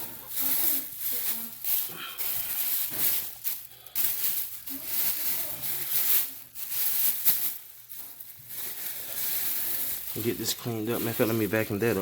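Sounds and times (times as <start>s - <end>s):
vacuum bags rustling and shaking: 0.0s - 12.0s.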